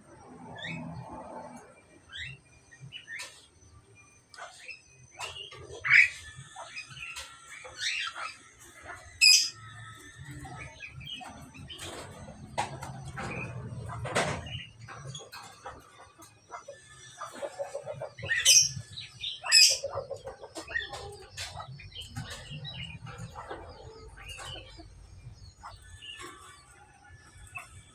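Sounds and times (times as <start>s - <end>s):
budgerigars chirping: 4.4s - 27.9s.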